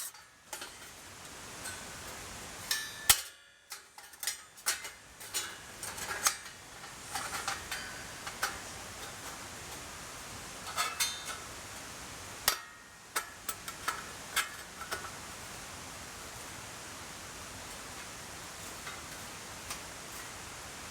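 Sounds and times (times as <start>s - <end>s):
steady background hiss: 0.0s - 20.9s.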